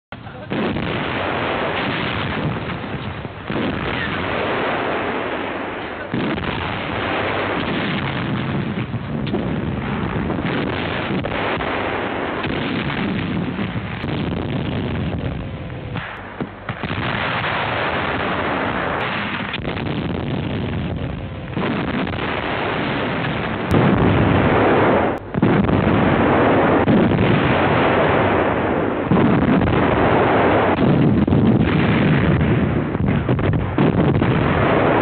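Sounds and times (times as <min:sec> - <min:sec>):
artillery fire and explosions: 0:00.0 - 0:35.0.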